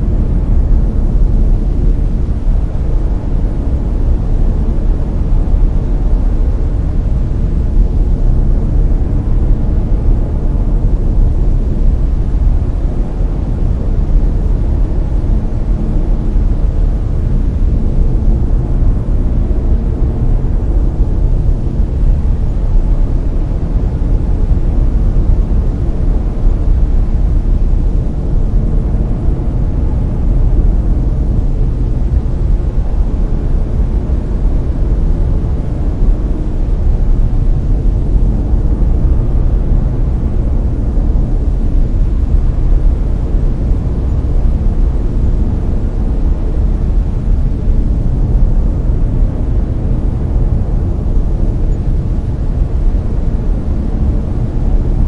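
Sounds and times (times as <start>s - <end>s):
brown noise: 0.0s - 55.0s.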